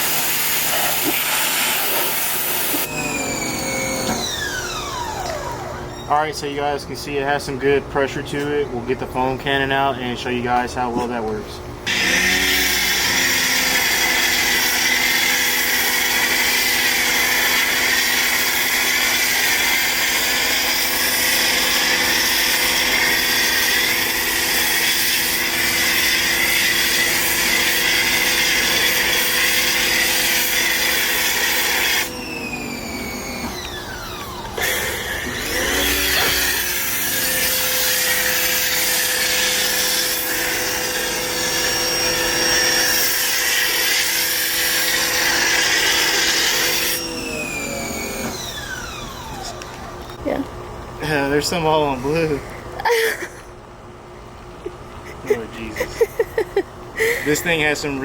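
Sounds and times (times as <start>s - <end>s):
motor whine: 0.0s - 6.4s, 11.8s - 53.4s
pressure washer motor and pump: 0.0s - 6.8s, 10.6s - 53.2s.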